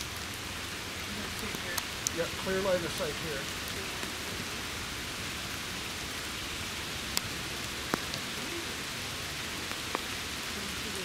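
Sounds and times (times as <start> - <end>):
rain falling through woodland: 0.0 - 11.0.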